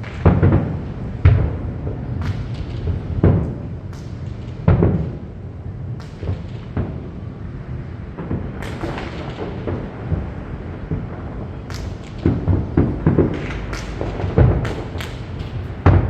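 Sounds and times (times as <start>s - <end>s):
fireworks booms and cracks: 0.0s - 16.0s.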